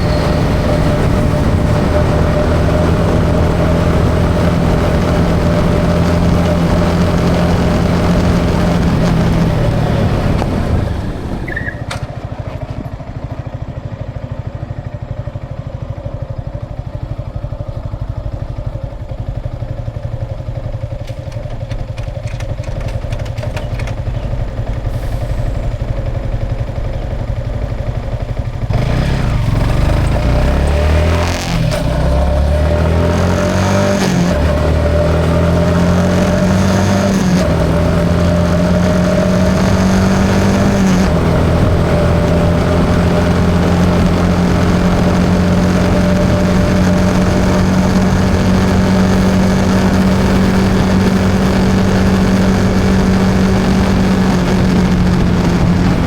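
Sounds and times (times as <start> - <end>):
motorcycle engine idling and revving: 0.0 - 56.0
wind and road noise: 0.0 - 56.0.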